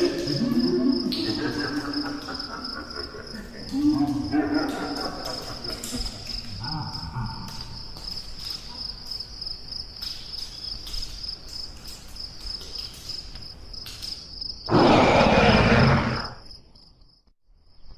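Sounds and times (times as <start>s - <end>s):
crickets chirping: 0.0s - 17.9s.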